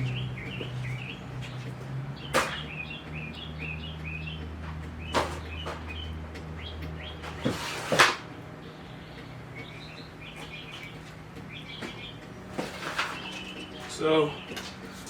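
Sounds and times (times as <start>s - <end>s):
small bird chirping: 0.0s - 7.5s, 8.6s - 15.0s.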